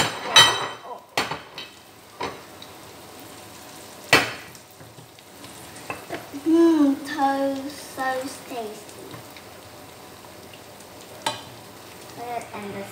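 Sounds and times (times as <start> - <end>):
tofu sizzling in hot oil: 0.4 - 12.9.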